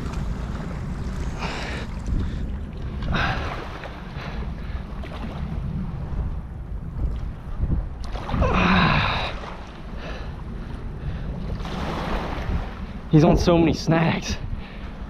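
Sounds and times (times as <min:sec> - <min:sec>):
river water: 0:00.0 - 0:15.0
wind buffeting microphone: 0:00.0 - 0:15.0.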